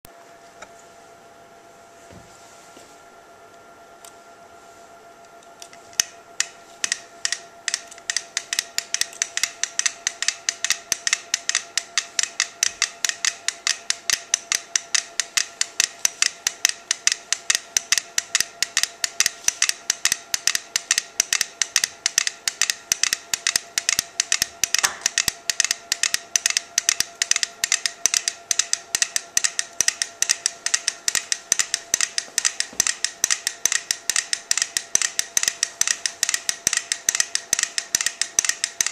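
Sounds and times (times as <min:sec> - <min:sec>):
metronomes ticking: 0:05.6 - 0:38.9.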